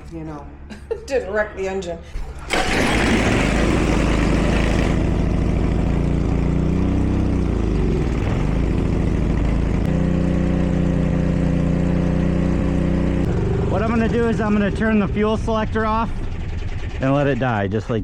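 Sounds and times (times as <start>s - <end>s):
small engine running: 2.5s - 18.0s.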